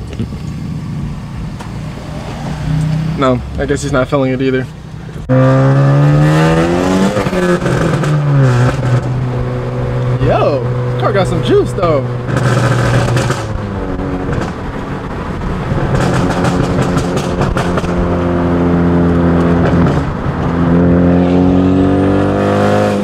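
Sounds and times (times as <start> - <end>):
turbo engine accelerating: 0.0 - 23.0.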